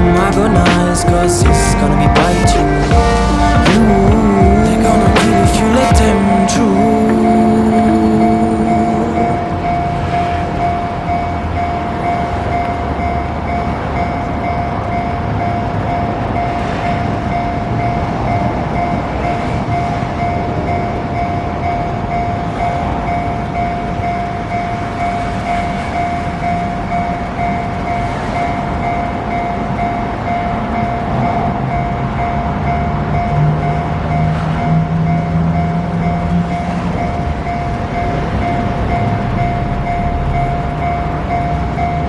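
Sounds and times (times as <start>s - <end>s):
constant tram whine: 0.0s - 42.0s.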